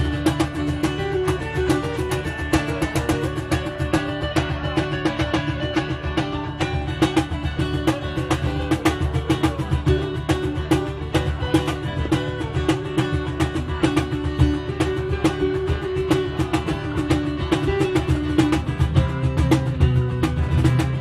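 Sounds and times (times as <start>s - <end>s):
live reggae band playing: 0.0s - 21.0s.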